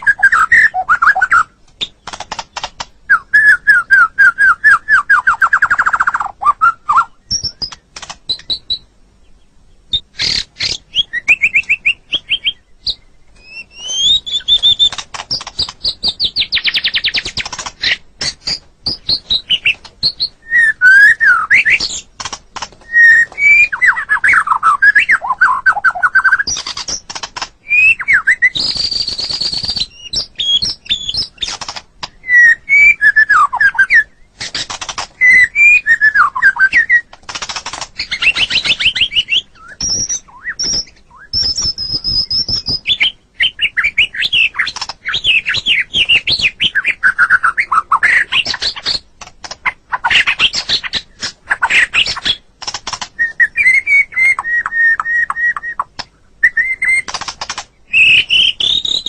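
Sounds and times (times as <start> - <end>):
songbird singing trills and whistles: 0.0 - 59.0.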